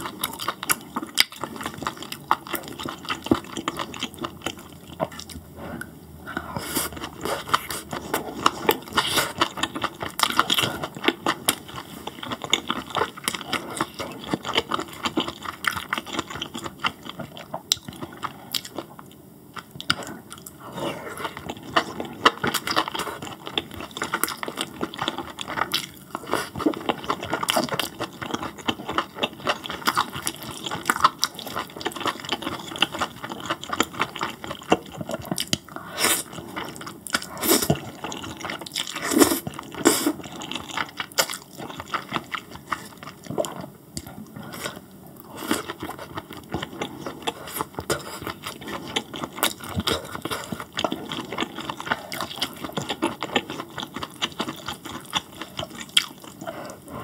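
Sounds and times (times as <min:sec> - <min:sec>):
chewing with mouth smacks: 0:00.0 - 0:57.0.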